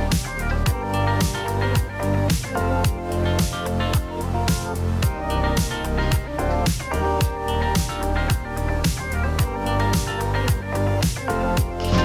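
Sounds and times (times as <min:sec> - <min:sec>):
guitar music with drum beat: 0:00.0 - 0:12.0.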